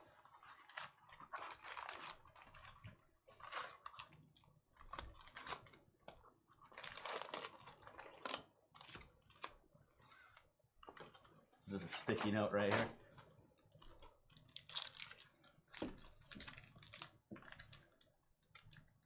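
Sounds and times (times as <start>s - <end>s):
wrappers crinkling: 0.0s - 10.5s, 11.8s - 19.0s.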